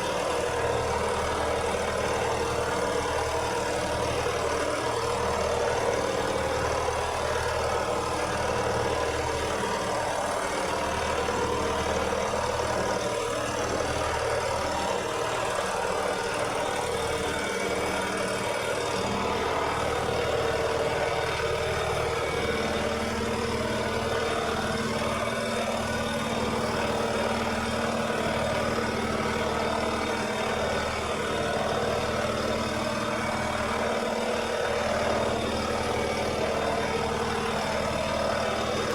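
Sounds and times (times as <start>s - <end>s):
lawnmower engine running: 0.0s - 38.9s.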